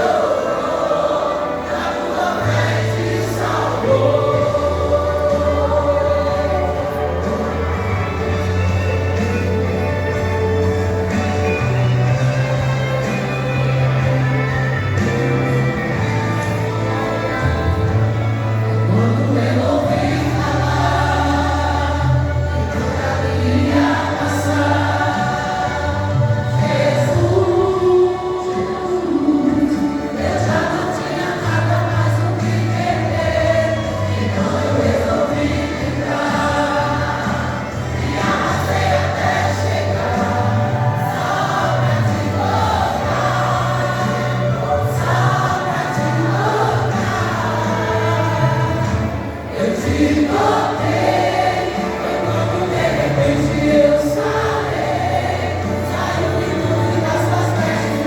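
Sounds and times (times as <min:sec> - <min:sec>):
instrumental accompaniment with bass: 0:00.0 - 0:58.0
vocal group singing in harmony: 0:00.0 - 0:58.0.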